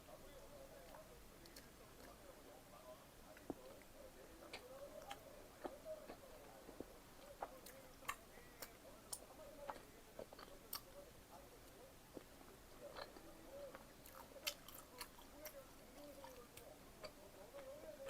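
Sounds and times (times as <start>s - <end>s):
chewing pizza: 0.4s - 2.5s, 3.3s - 18.0s.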